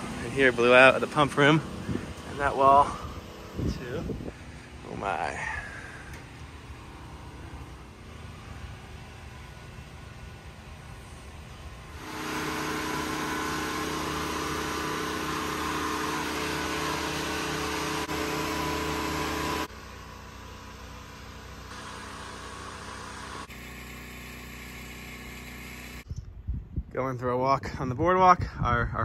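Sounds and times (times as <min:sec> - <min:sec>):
generator engine running: 0:00.0 - 0:26.1.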